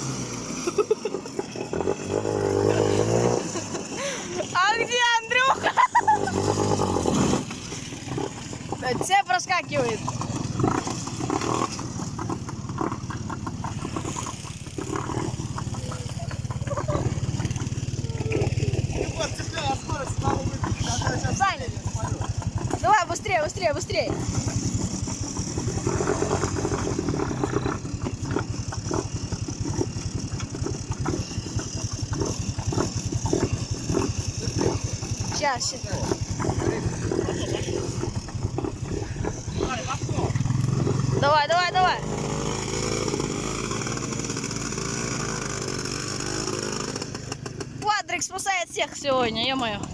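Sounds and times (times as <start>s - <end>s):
quad bike engine running: 0.0s - 49.9s.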